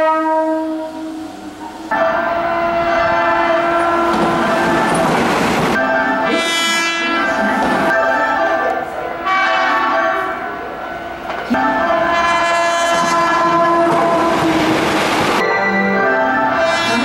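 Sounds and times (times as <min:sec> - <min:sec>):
electric train horn: 0:00.0 - 0:05.2, 0:06.1 - 0:10.5, 0:11.5 - 0:15.0, 0:16.4 - 0:17.0
train rumble and rail clatter: 0:00.0 - 0:17.0.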